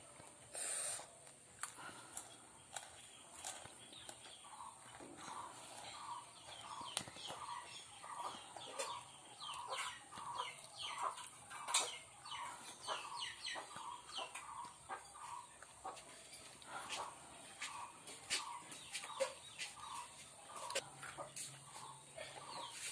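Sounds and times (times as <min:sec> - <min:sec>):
chickens clucking: 0:01.8 - 0:22.9.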